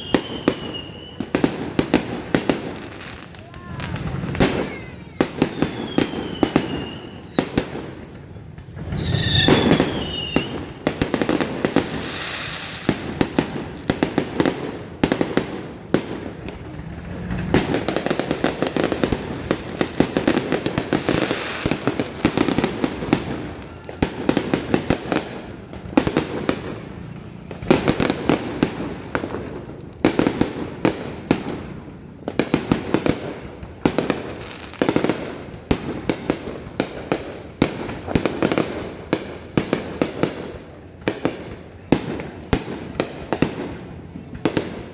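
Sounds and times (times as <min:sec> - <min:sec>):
fireworks bangs and crackling: 0:00.0 - 0:44.9
fireworks whistling: 0:00.0 - 0:44.9.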